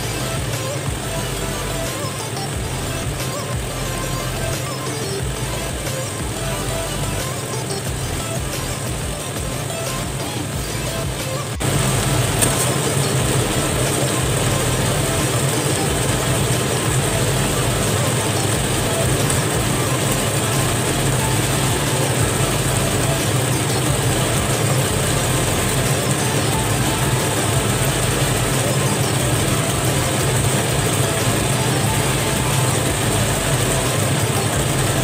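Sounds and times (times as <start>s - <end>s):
constant low hum: 0.0s - 35.0s.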